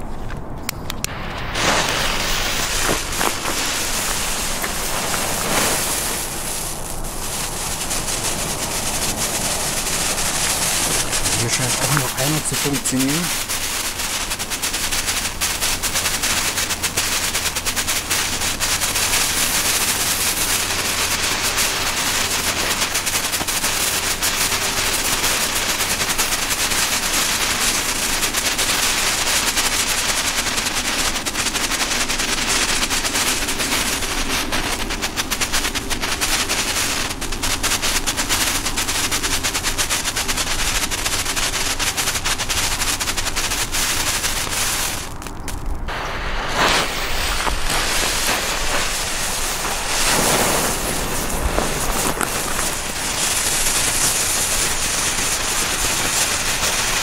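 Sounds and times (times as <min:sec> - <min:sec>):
fireworks crackling: 0:00.0 - 0:57.0.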